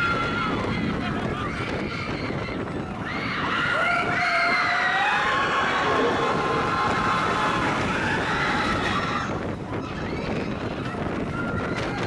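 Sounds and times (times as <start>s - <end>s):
people screaming: 0.0s - 12.0s
roller coaster rumbling on track: 0.0s - 12.0s.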